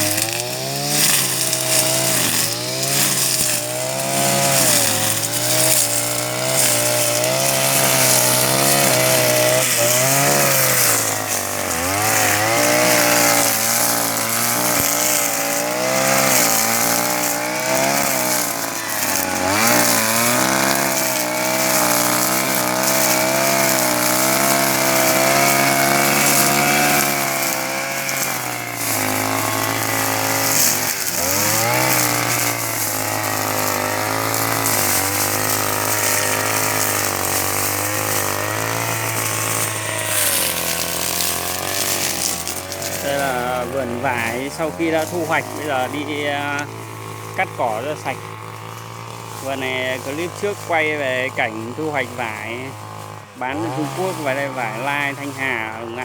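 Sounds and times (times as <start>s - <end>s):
brush cutter engine cutting grass: 0.0s - 56.0s.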